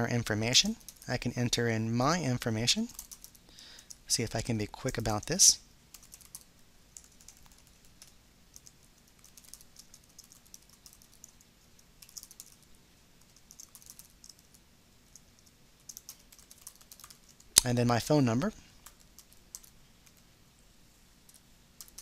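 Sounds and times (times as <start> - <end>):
faint keyboard typing: 0.0 - 1.4, 2.5 - 4.3, 4.9 - 17.7, 18.4 - 20.4, 21.2 - 22.0.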